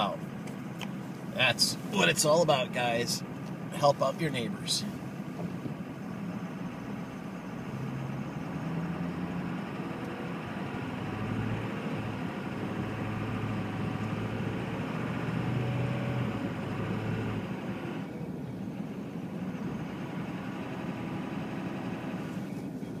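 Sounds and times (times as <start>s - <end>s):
car engine from inside cabin: 0.0s - 23.0s
road noise: 0.0s - 23.0s.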